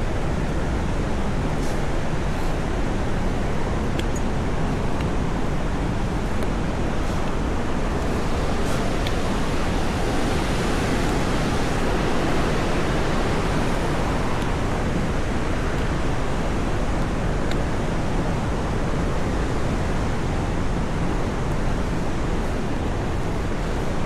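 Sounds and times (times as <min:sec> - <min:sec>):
fast-flowing water rushing: 0:00.0 - 0:24.0.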